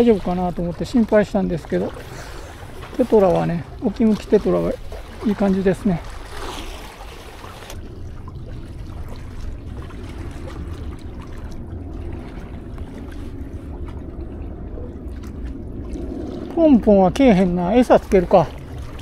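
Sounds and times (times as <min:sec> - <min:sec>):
seawater lapping on concrete: 0:00.0 - 0:19.0.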